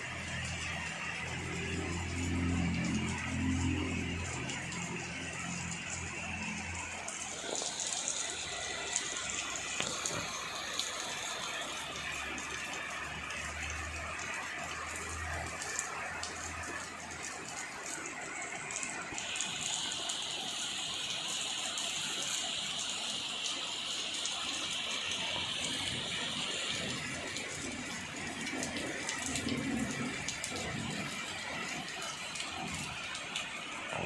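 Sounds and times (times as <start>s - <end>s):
drips and splashes: 0.0s - 34.0s
heavy rain pouring: 0.0s - 34.0s.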